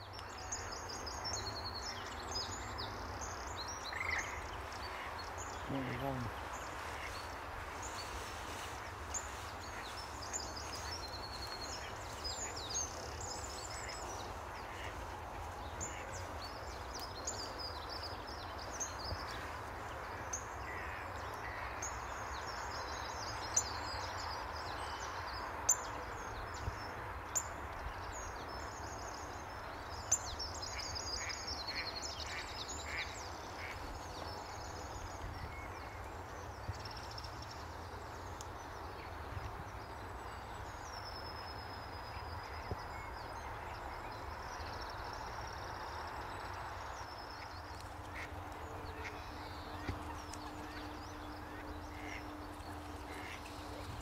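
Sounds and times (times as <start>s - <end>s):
songbirds chirping and trilling: 0.0s - 54.0s
steady outdoor hiss: 0.0s - 54.0s.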